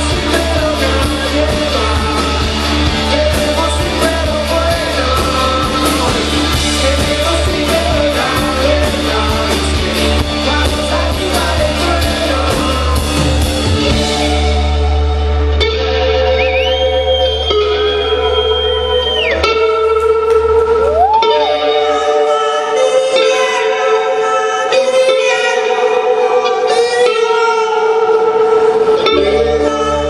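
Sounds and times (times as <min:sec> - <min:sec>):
person singing: 0:00.0 - 0:30.0
rock band playing live: 0:00.0 - 0:30.0.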